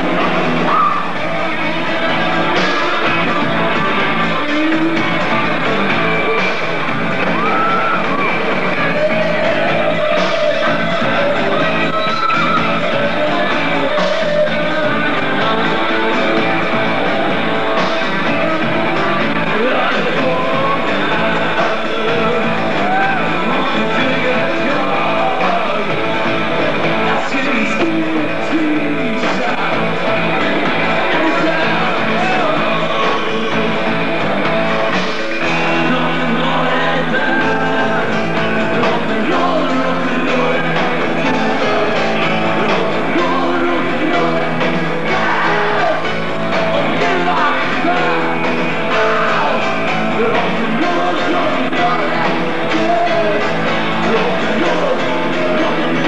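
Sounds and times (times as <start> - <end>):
electric guitar: 0.0 - 56.0
person singing: 0.0 - 56.0
rock band playing live: 0.0 - 56.0.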